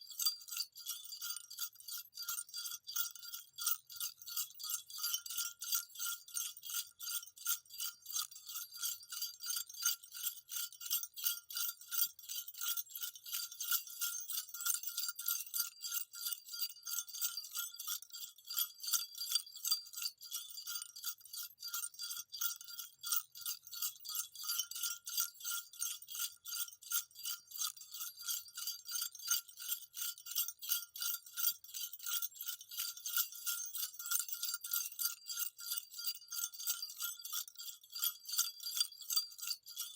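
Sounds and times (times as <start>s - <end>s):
small jingle bells shaken: 0.0s - 39.9s.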